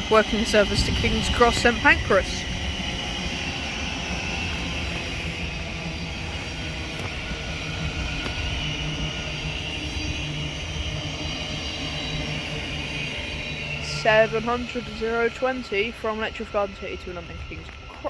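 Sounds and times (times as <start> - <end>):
train electric hum and rumble: 0.0 - 18.0.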